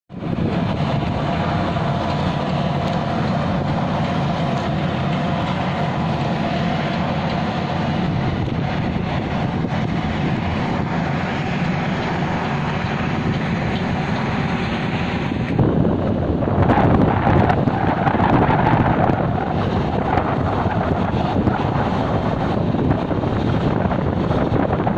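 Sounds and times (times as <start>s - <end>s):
ship engines droning: 0.1s - 24.9s
wind buffeting microphone: 0.1s - 24.9s.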